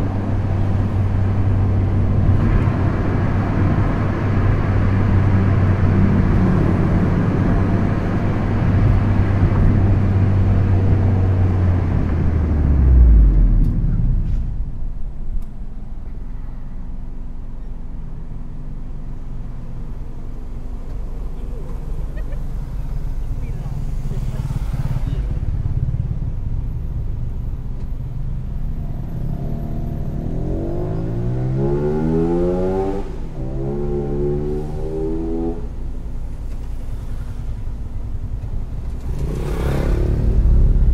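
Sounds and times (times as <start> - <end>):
car engine drone from cabin: 0.0 - 40.9.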